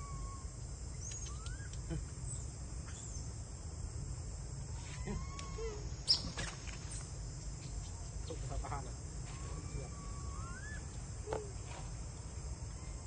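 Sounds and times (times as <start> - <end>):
trilling insect chorus: 0.0 - 13.0.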